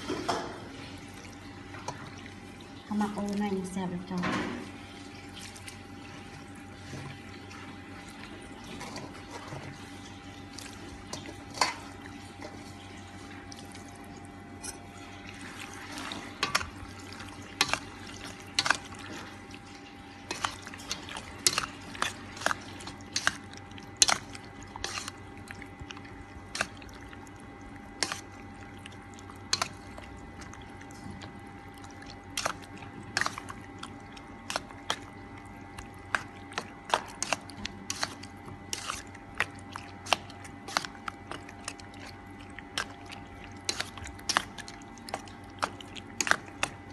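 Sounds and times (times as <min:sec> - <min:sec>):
meat squelching in marinade: 0:04.6 - 0:46.9.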